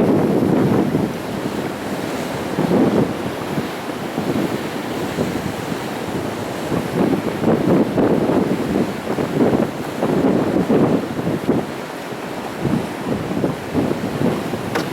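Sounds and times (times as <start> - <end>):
sea waves breaking on rocks: 0.0 - 14.9
wind buffeting microphone: 0.0 - 14.9.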